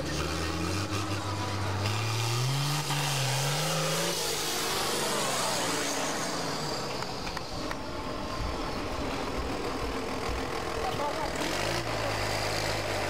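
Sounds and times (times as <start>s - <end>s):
tractor diesel engine at full throttle: 0.0s - 13.0s.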